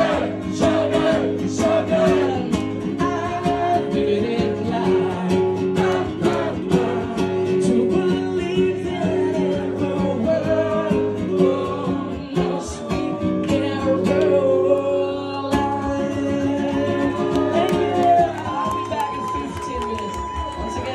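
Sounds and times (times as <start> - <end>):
man singing: 0.0 - 18.9
acoustic guitar: 0.0 - 20.9.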